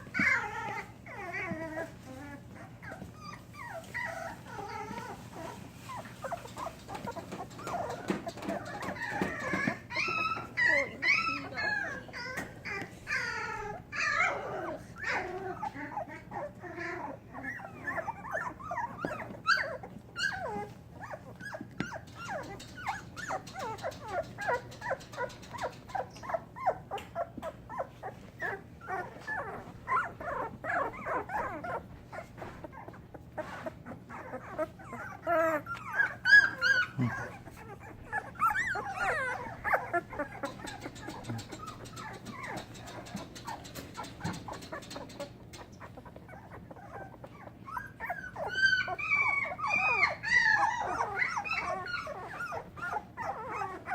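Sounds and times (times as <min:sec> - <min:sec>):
puppies whimpering and squeaking: 0:00.0 - 0:53.9
puppies yelping: 0:00.0 - 0:53.9.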